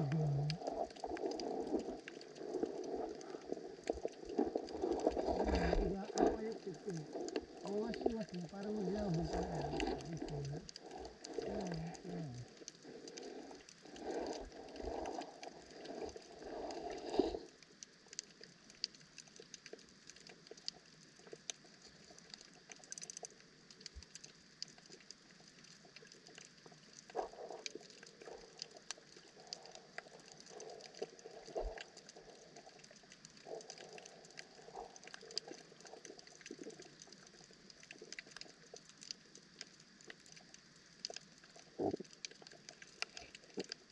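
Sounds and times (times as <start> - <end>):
faint clicks and crackles: 0.0 - 43.9
muffled underwater water movement: 0.0 - 43.9.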